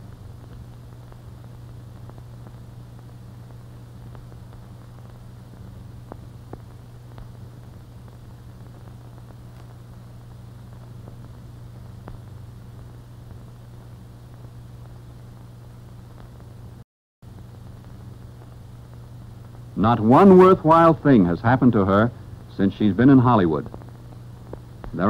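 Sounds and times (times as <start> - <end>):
faint clicks and crackles: 0.0 - 19.8, 23.6 - 25.0
film soundtrack hum and hiss: 0.0 - 25.0.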